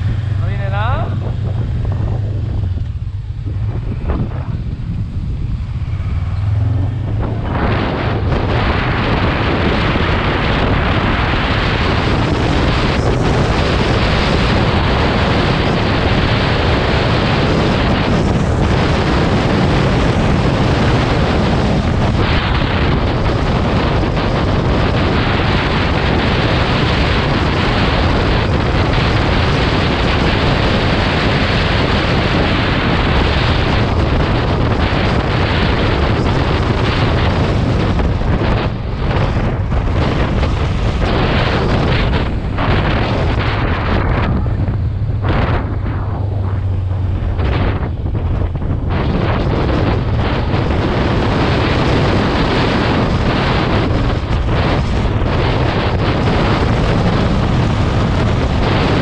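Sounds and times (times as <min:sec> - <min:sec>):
vehicle engine and road noise: 0:00.0 - 0:59.0
wind rushing over microphone: 0:00.0 - 0:59.0.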